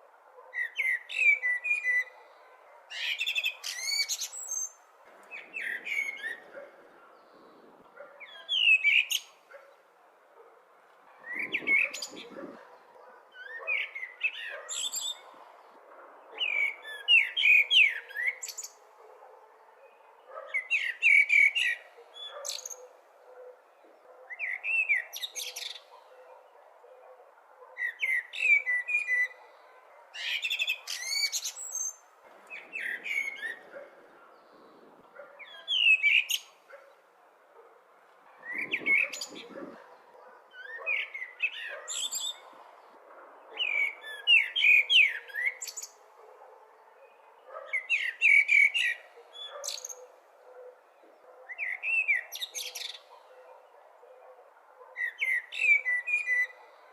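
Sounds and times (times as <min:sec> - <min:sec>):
blackbird singing: 0:00.4 - 0:07.4, 0:08.0 - 0:09.8, 0:11.2 - 0:15.4, 0:16.2 - 0:18.8, 0:19.7 - 0:27.1, 0:27.7 - 0:37.0, 0:38.4 - 0:42.6, 0:43.5 - 0:46.0, 0:46.9 - 0:54.3, 0:55.0 - 0:56.8.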